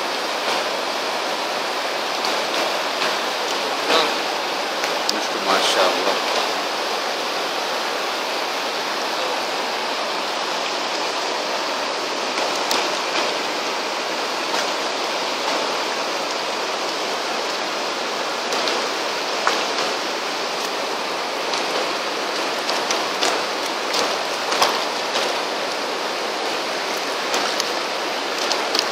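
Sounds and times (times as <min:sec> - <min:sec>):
river rushing over rocks: 0:00.0 - 0:28.9.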